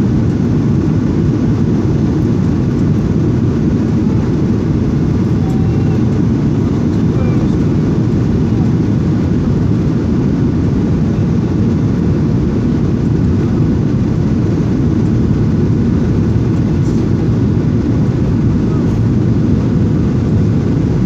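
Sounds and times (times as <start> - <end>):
airliner cabin engine rush: 0.0 - 21.0.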